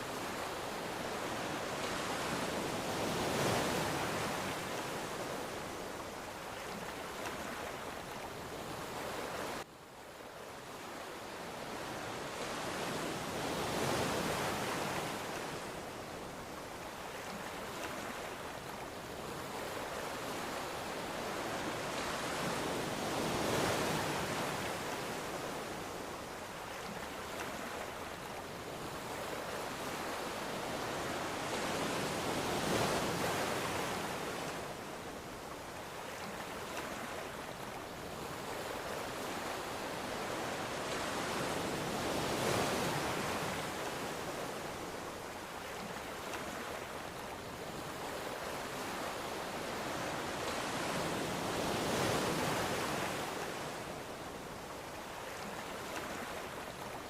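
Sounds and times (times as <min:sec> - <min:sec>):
ocean waves breaking ashore: 0:00.0 - 0:09.7, 0:10.3 - 0:57.0.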